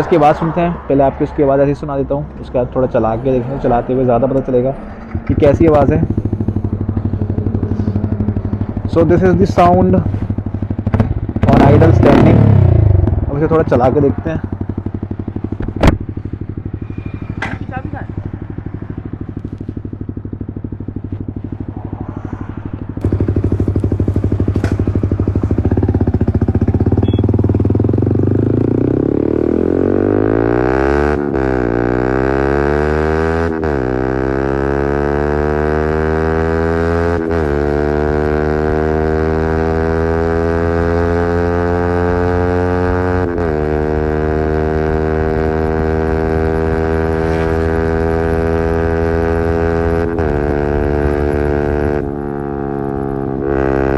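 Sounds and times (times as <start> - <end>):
motorcycle accelerating through gears: 3.9 - 53.9.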